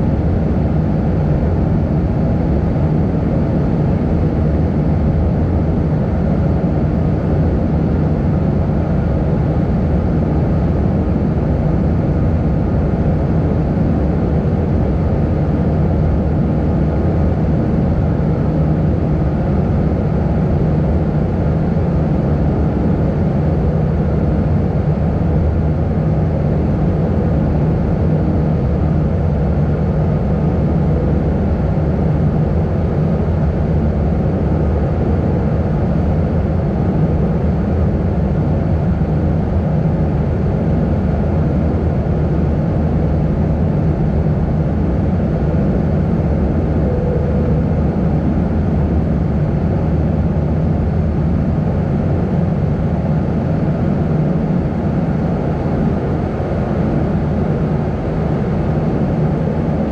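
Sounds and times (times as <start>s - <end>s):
faint hum: 0.0s - 59.9s
jet engine cabin drone: 0.0s - 59.9s.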